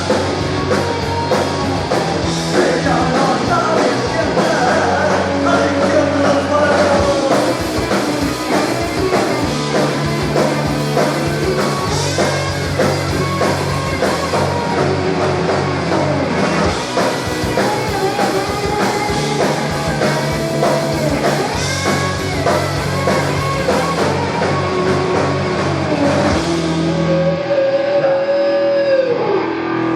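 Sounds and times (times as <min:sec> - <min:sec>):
drum kit: 0:00.0 - 0:27.3
bass guitar: 0:00.0 - 0:29.9
electric guitar lead: 0:00.0 - 0:29.9.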